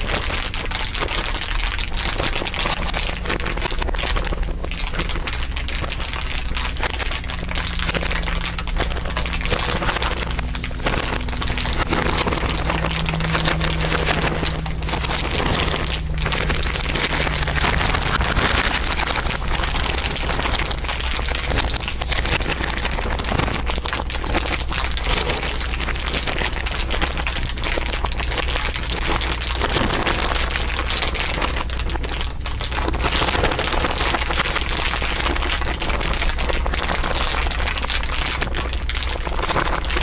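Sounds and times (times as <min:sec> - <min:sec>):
dense crinkling: 0:00.0 - 0:40.0
low steady hum: 0:00.0 - 0:40.0.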